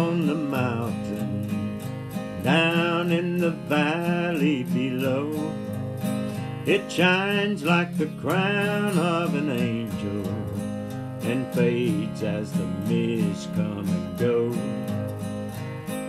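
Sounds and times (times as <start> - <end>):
acoustic guitar accompaniment: 0.0 - 16.0.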